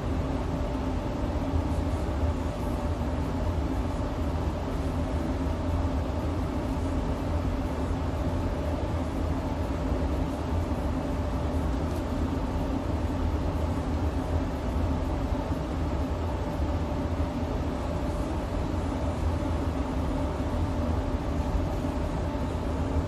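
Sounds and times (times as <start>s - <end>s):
workshop machinery rumble and hum: 0.0s - 23.0s.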